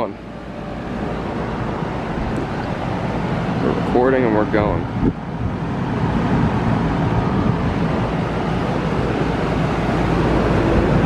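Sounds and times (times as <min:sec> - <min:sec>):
compressor humming low: 0:00.0 - 0:11.0
fan air rushing: 0:00.0 - 0:11.0.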